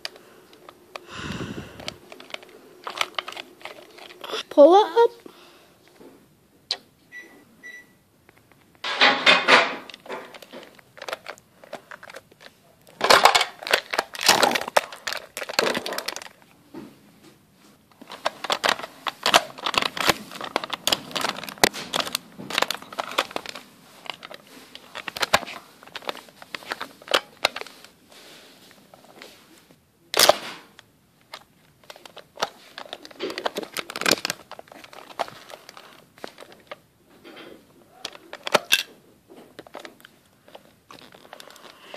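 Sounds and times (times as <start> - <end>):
plastic toys rustling and clicking: 0.0 - 5.2, 8.3 - 16.6, 17.8 - 41.9.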